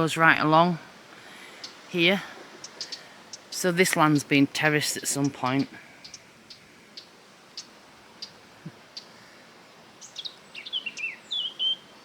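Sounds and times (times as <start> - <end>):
birds singing: 0.0 - 12.0
outdoor hiss: 0.0 - 12.0.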